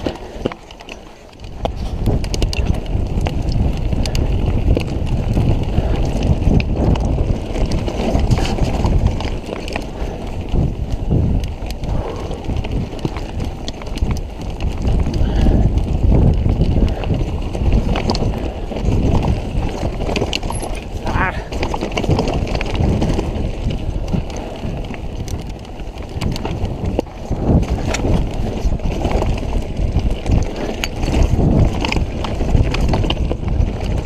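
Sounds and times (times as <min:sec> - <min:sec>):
bike rattling over rocks: 0:00.0 - 0:34.0
wind rumble on microphone: 0:00.0 - 0:34.0.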